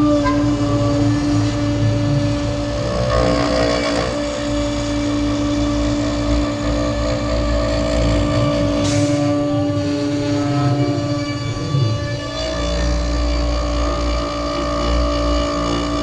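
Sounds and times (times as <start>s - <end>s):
router spindle whine: 0.0s - 16.0s.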